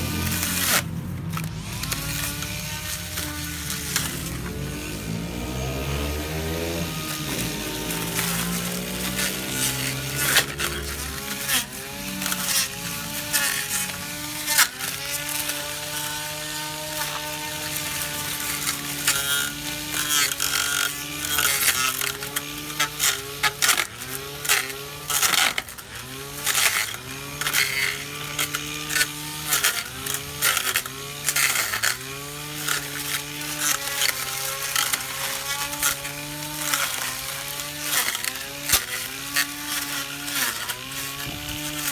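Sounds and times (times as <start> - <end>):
electric grass trimmer whining: 0.0 - 41.9.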